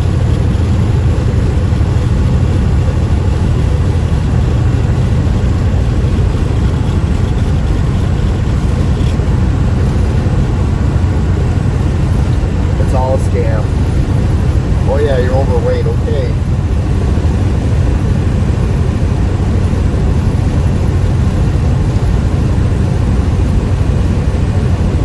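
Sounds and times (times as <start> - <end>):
road noise: 0.0 - 25.0
truck engine drone: 0.0 - 25.0.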